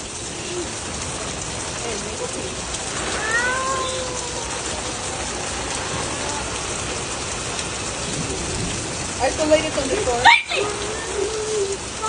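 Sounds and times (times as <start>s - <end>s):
rain splashing on surfaces: 0.0s - 12.0s.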